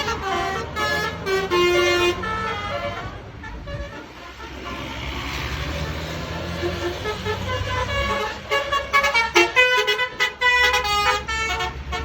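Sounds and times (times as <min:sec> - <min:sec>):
bus engine rumble: 0:00.0 - 0:12.0
bus musical horn melody: 0:00.0 - 0:12.0.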